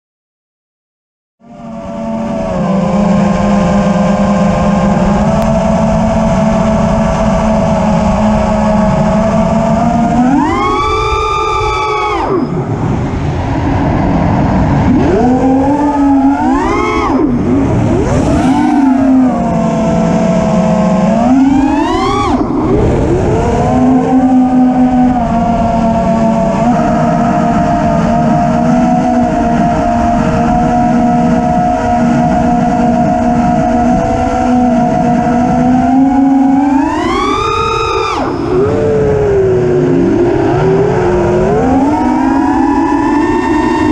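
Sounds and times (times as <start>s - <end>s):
quadcopter motors whining: 1.4s - 43.9s.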